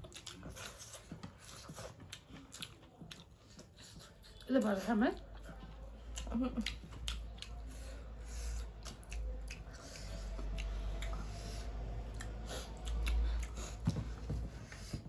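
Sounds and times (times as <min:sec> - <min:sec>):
chewing with wet mouth noises: 0:00.0 - 0:15.0.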